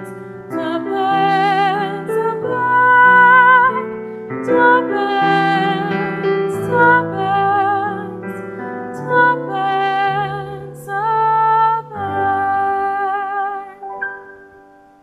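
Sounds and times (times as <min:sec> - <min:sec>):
woman singing a slow ballad: 0:00.0 - 0:13.8
piano accompaniment: 0:00.0 - 0:15.0.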